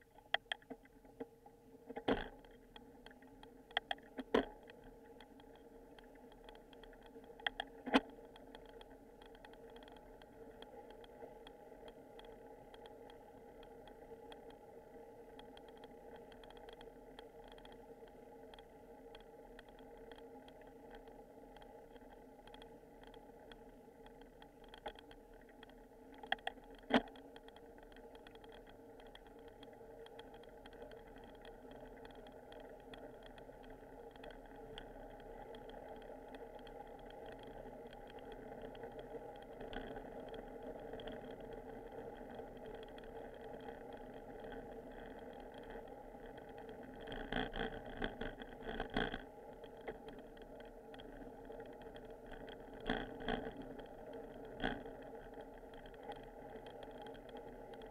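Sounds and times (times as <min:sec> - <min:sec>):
low bicycle ride noise: 0:00.0 - 0:57.9.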